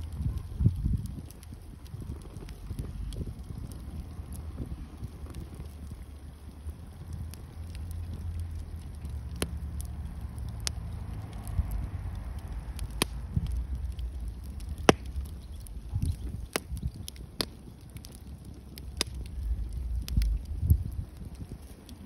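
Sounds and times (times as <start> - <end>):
steady low rumble: 0.0 - 22.0
wood fire popping and cracking: 0.0 - 22.0.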